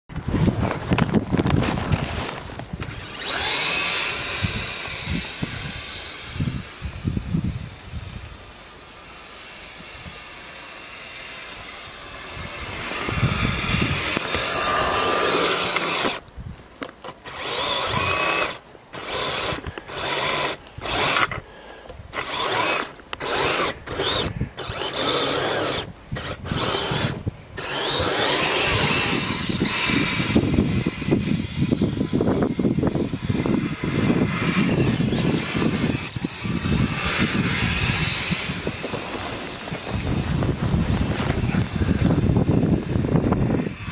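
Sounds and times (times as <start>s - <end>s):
electric motors whining: 2.2s - 16.3s, 17.0s - 43.9s.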